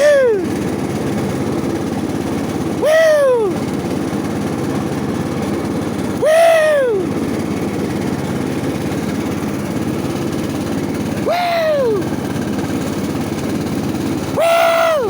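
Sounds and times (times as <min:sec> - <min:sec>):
ride-on mower engine running: 0:00.0 - 0:15.0.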